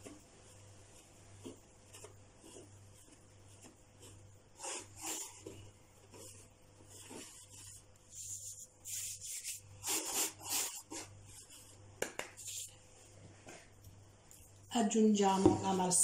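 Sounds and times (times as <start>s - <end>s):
hands rubbing dough: 0.0s - 16.0s.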